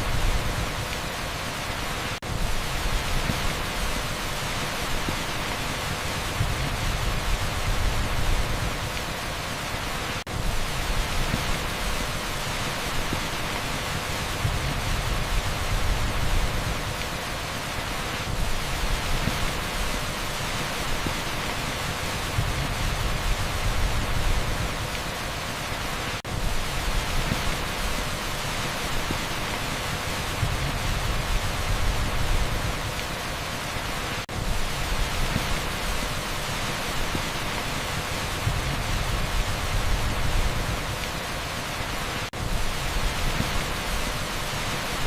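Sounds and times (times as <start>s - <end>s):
heavy rain on a street: 0.0s - 45.0s
pink noise: 0.0s - 45.0s.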